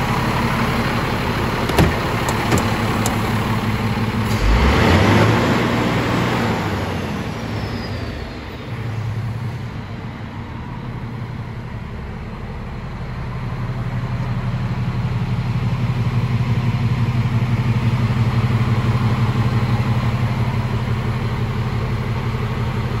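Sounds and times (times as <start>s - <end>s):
diesel truck engine idling: 0.0s - 4.5s, 8.6s - 23.0s.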